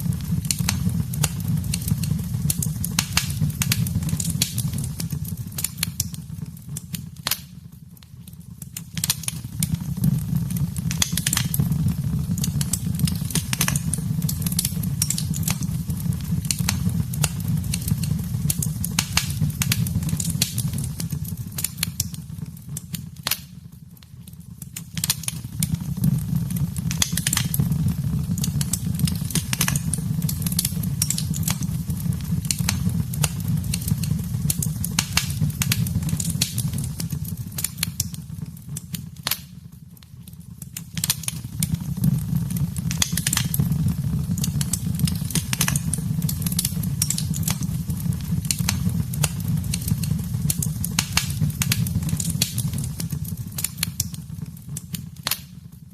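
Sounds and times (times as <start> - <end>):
low fire rumble: 0.0 - 55.9
wood fire crackling: 0.0 - 55.9.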